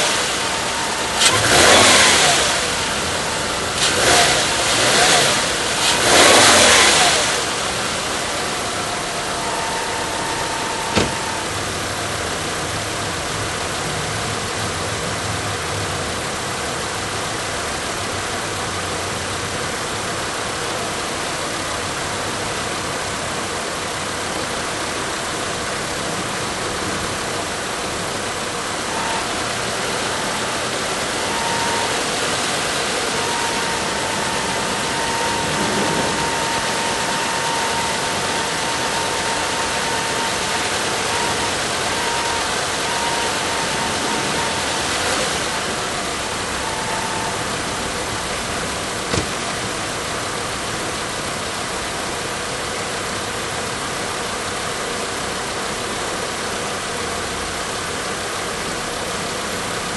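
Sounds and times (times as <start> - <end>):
faint whine: 0.0 - 17.0, 20.4 - 52.2
car engine idling: 0.0 - 59.9.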